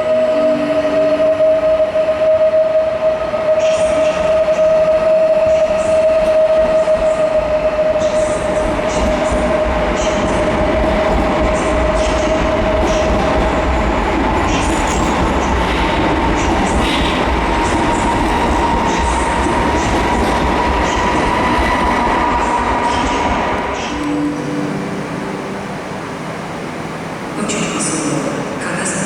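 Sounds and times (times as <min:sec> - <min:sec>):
train rumbling with electric whine: 0:00.0 - 0:29.0.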